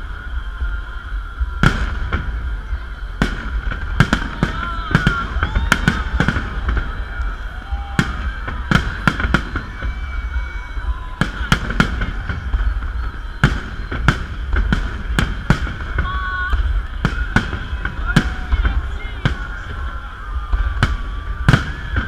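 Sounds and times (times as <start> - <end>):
fireworks bangs: 0.0 - 22.0
low rumble: 0.0 - 22.0.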